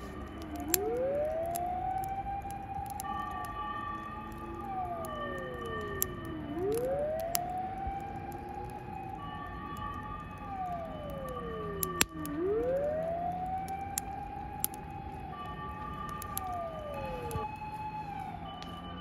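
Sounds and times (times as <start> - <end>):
distant sirens wailing: 0.0 - 19.0.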